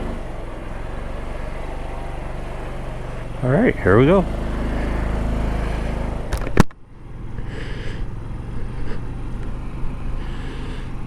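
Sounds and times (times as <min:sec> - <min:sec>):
scooter engine running: 0:00.0 - 0:11.0
wind and road noise: 0:00.0 - 0:11.0.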